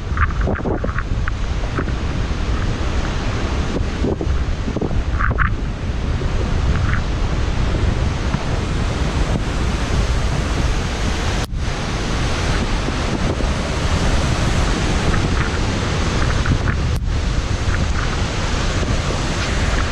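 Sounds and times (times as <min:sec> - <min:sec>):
waterfall roaring: 0:00.0 - 0:19.9
wind buffeting microphone: 0:00.0 - 0:19.9.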